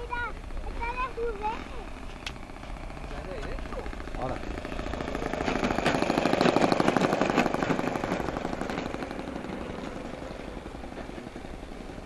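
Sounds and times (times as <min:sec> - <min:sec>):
model plane engine popping: 0:00.0 - 0:12.0.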